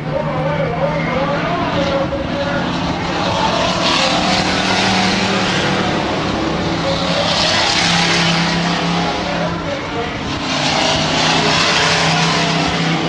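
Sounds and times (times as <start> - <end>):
racing truck engines: 0.0 - 13.0.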